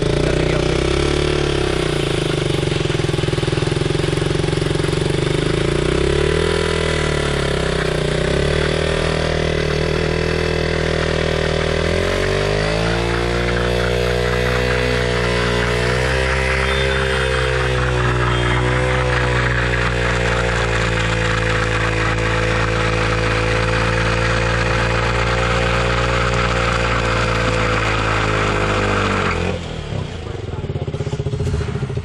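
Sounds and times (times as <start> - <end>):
motorcycle engine at high revs: 0.0 - 32.0.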